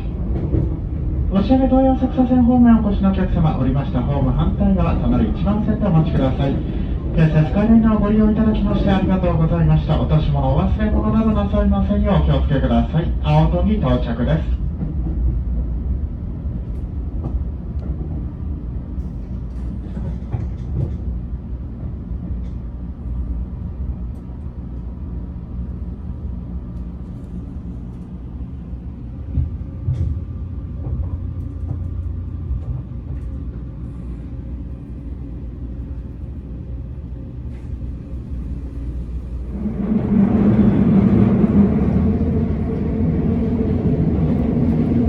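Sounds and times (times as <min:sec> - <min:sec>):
train car low rumble: 0:00.0 - 0:45.0.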